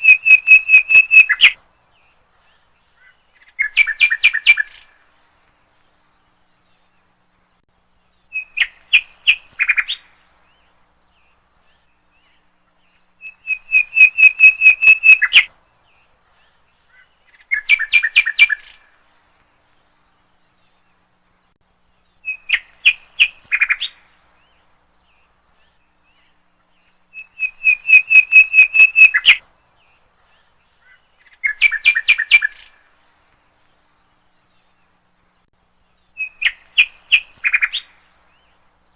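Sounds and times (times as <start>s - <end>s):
bird chirping: 0.0s - 5.1s, 5.7s - 38.9s.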